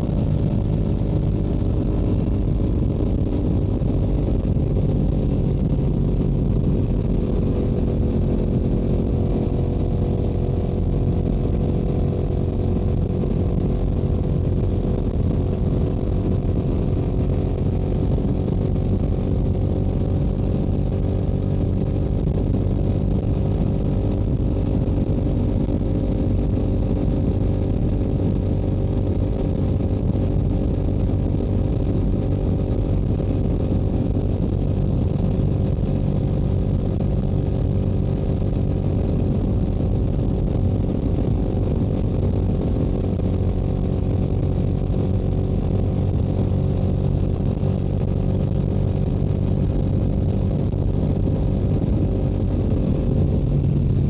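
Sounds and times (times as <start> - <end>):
motorcycle engine cruising: 0.0 - 54.0
wind noise: 0.0 - 54.0.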